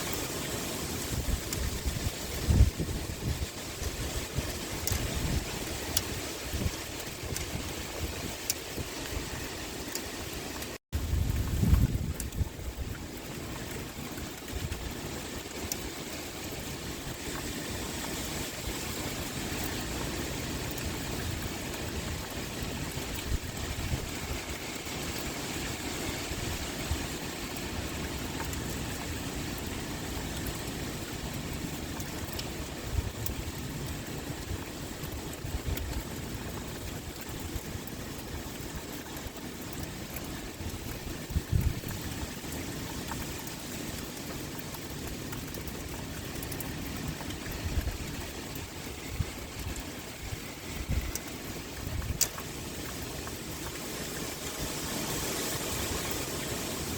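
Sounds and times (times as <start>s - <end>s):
wind blowing: 0.0s - 15.8s, 16.4s - 37.7s, 46.2s - 56.9s
pouring rain: 0.0s - 56.9s.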